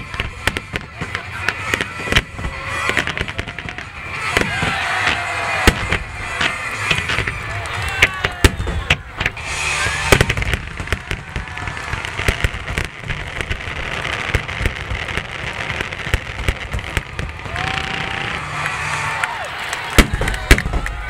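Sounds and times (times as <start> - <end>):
crackle of sparks: 0.0 - 21.0
firework shells bursting: 0.0 - 21.0.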